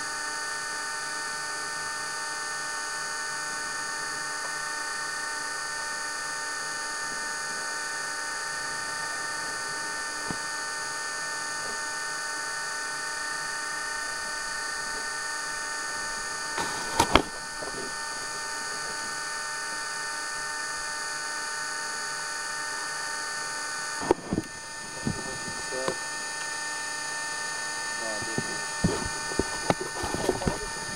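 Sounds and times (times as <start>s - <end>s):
high motor whine: 0.0s - 30.9s.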